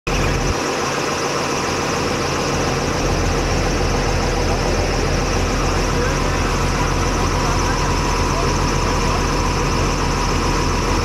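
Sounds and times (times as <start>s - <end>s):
heavy diesel engine rumbling: 0.1s - 11.0s.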